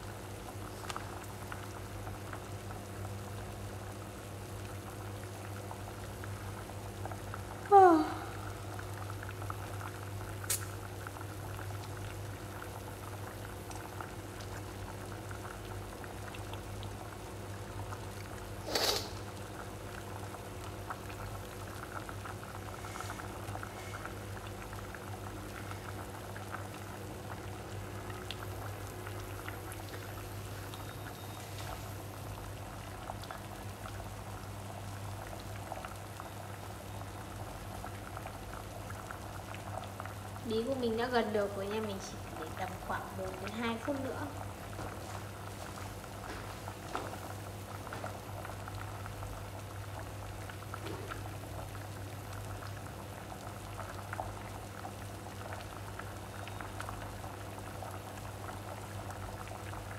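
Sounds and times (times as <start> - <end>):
water boiling and bubbling: 0.0 - 59.9.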